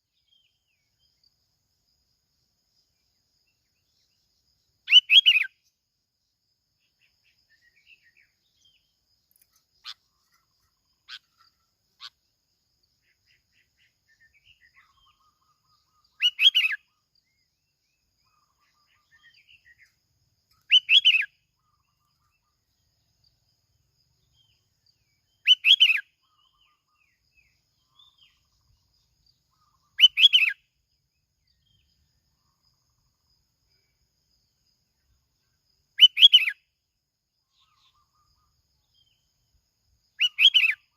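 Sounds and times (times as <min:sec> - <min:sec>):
faint bird chirps: 0:00.0 - 0:40.9.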